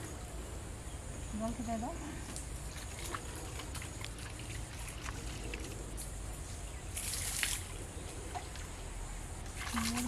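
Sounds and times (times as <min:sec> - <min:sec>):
pond water splashing and trickling: 0:01.8 - 0:10.0.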